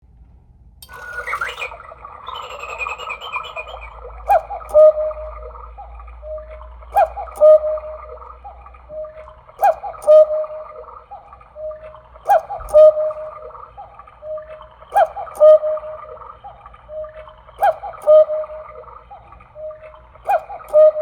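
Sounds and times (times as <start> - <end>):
electronic cuckoo call: 0.8 - 21.0
recorded birdsong: 0.9 - 21.0.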